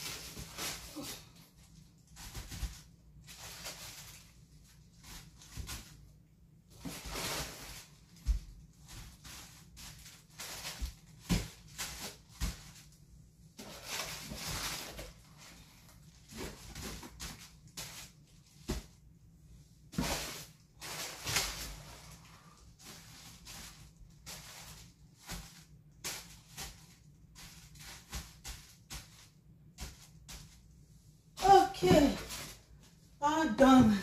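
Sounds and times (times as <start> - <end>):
toilet paper rolls rustling: 0.0 - 34.0.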